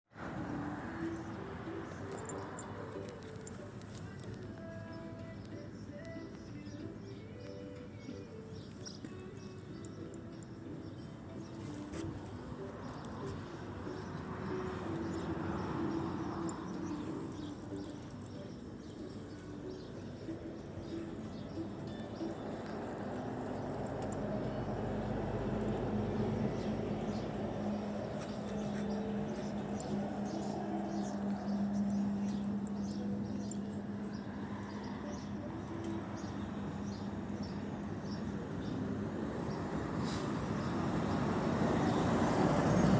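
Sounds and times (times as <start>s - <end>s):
road traffic: 0.1s - 42.9s.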